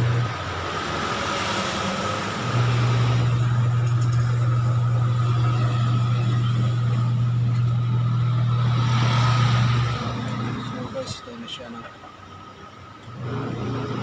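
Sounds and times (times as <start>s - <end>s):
washing machine motor humming: 0.0s - 11.3s, 12.7s - 14.0s.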